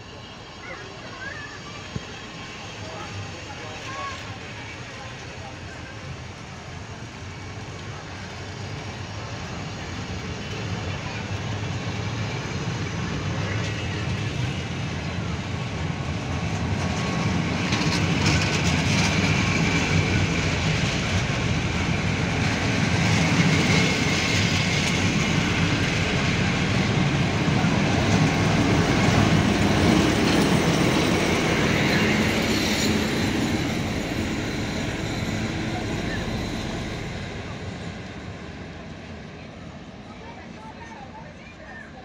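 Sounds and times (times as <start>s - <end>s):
train wheels rumbling on rails: 0.0s - 40.7s
diesel locomotive passing: 0.0s - 42.0s.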